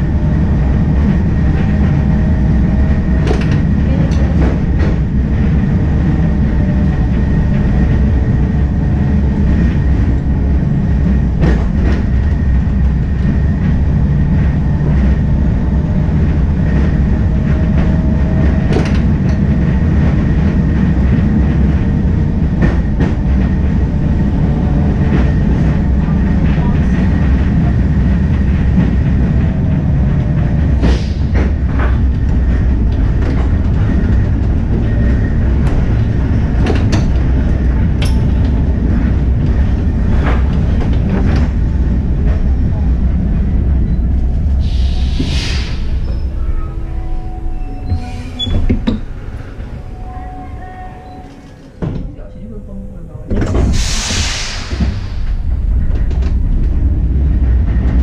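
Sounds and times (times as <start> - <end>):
tram wheels rumbling: 0.0 - 58.0.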